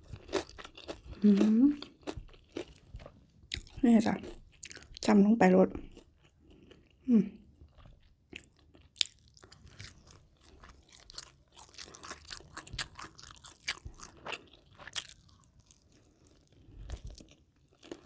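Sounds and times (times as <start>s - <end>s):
crunching and chewing crisp food: 0.0s - 5.1s, 5.7s - 18.0s.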